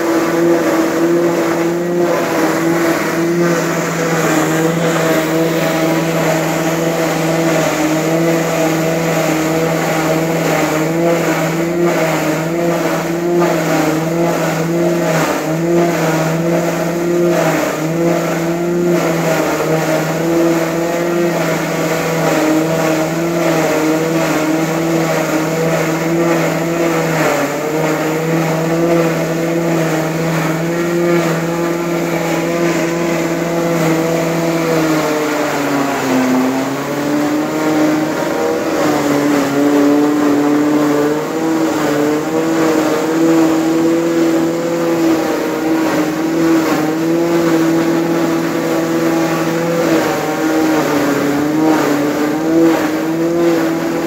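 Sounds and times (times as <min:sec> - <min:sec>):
continuous grinding noise: 0:00.0 - 0:54.0
grinding machine motor hum: 0:00.0 - 0:54.0.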